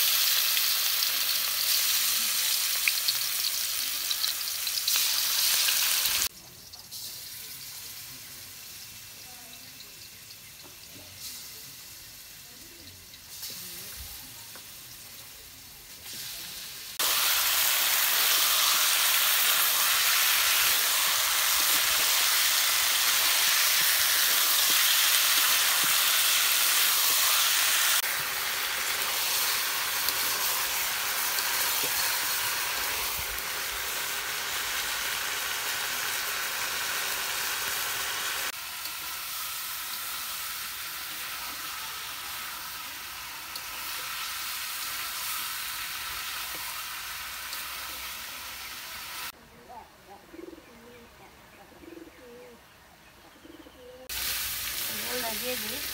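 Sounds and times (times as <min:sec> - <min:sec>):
chicken sizzling in hot oil: 0:00.0 - 0:49.4, 0:54.1 - 0:55.9.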